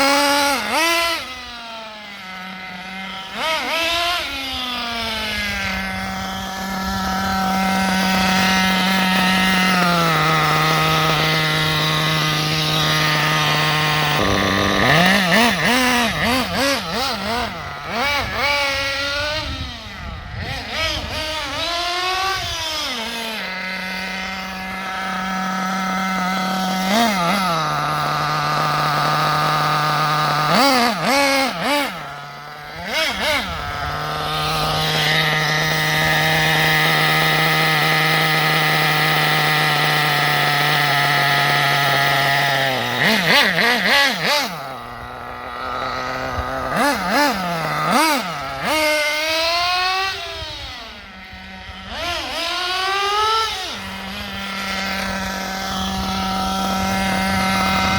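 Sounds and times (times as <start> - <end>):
small nitro engine idling and blipping: 0.0 - 57.9.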